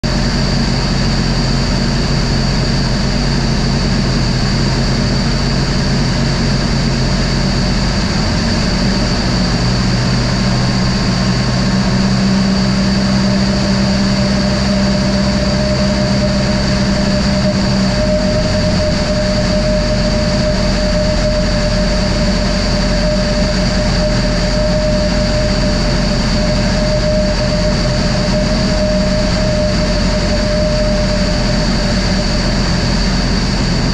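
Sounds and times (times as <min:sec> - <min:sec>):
aircraft engine and propeller: 0:00.0 - 0:33.9
wind rush on microphone: 0:00.0 - 0:33.9.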